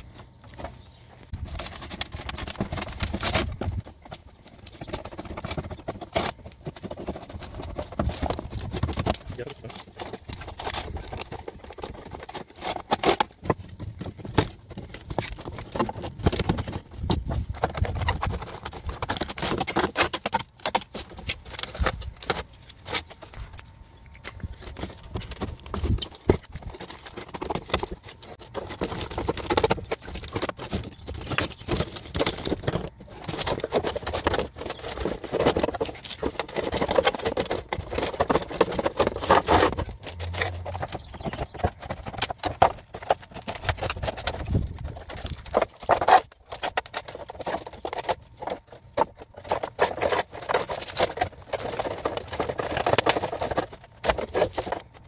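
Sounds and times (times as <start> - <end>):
objects clattering and scraping: 0.0 - 55.0.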